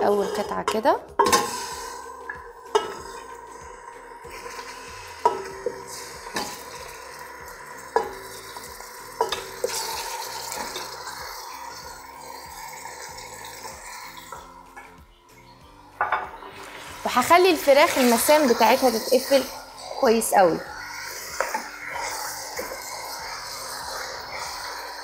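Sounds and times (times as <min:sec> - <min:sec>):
chicken sizzling in hot oil: 0:01.2 - 0:25.0.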